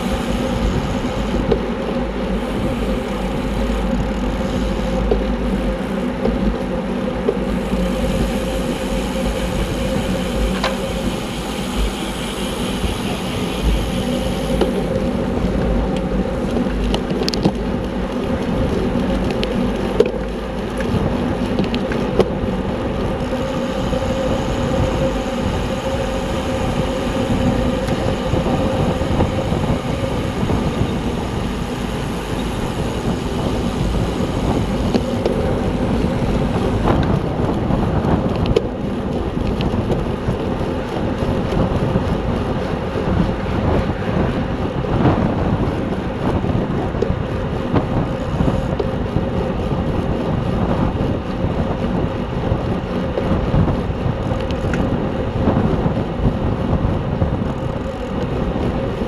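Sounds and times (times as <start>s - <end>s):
faint steady hum: 0.0s - 59.0s
wind rushing over microphone: 0.0s - 59.0s.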